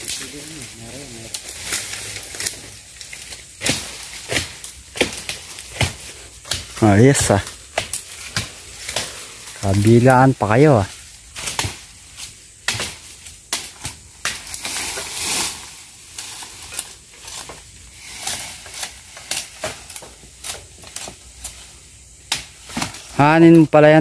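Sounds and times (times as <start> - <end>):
twigs crackling and snapping: 0.0 - 23.6
leaves rustling: 0.0 - 24.0.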